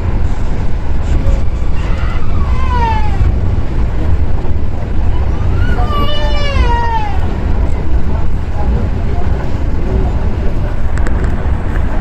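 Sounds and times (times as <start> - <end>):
train rumbling on rubber tyres: 0.0 - 12.0.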